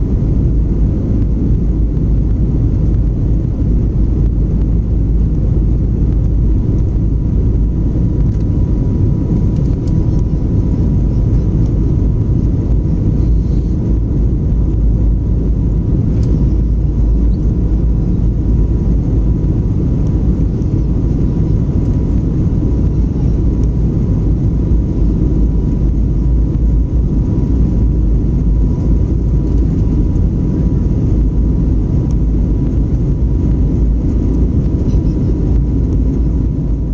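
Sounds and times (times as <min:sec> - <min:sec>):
jet engine cabin rumble: 0:00.0 - 0:36.9.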